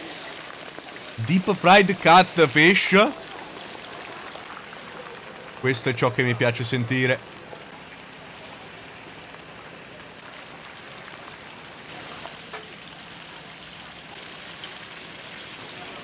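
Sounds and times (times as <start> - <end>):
oil bubbling and sizzling: 0.0 - 5.7, 6.6 - 16.0.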